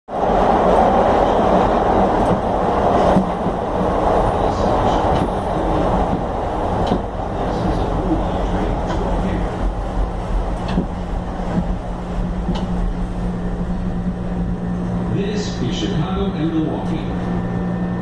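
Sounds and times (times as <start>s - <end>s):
train wheels and motors rumbling: 0.1s - 18.0s.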